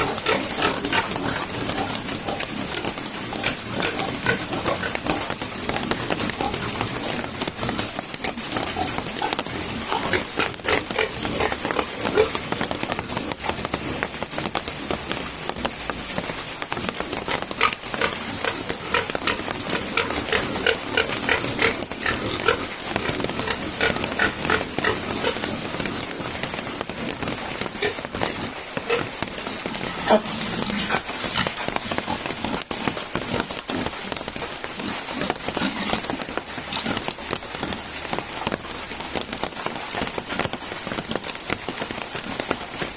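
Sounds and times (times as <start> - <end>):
pigs grunting and squealing: 0.0 - 14.1, 16.9 - 26.7, 27.4 - 38.0
heavy rain hissing: 0.0 - 42.9.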